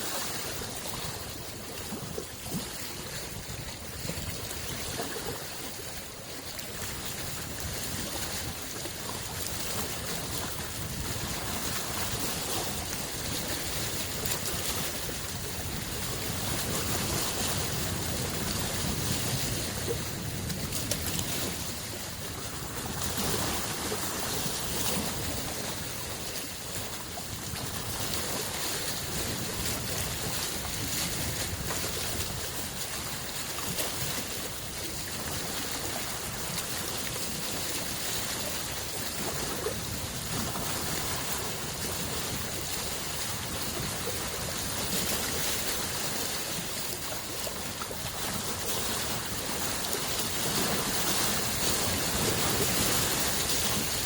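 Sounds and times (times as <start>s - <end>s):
small lake waves: 0.0s - 54.0s.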